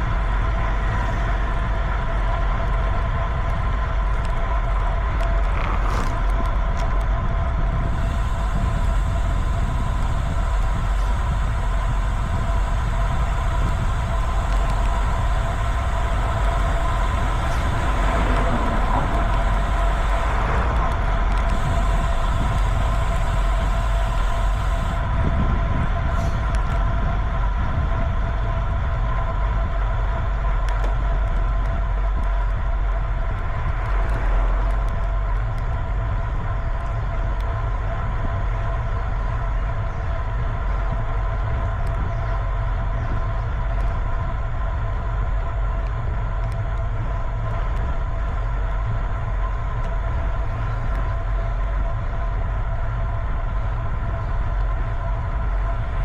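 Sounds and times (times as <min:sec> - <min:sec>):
constant whine: 0:00.0 - 0:56.0
wind and road noise: 0:00.0 - 0:56.0.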